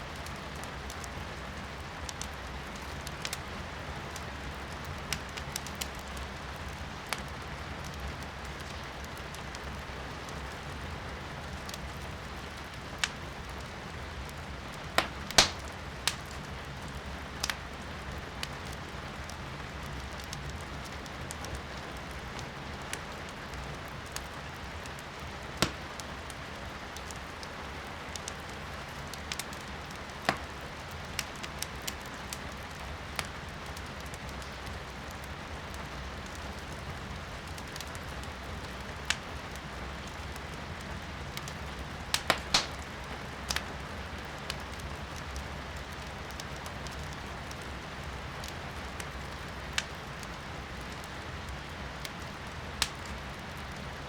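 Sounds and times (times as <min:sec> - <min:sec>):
firewood crackling in fireplace: 0:00.0 - 0:54.0
rain hissing heard indoors: 0:00.0 - 0:54.0.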